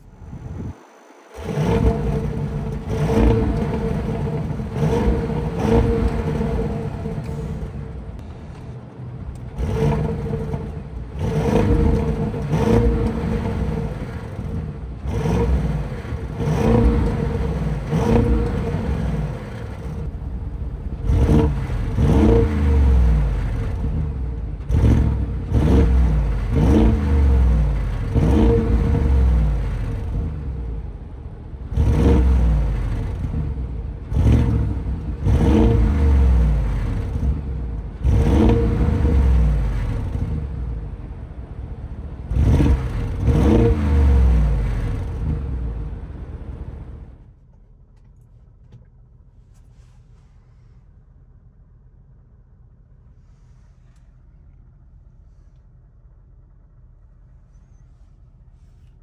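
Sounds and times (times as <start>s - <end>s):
car engine starting and revving: 0.0s - 47.4s.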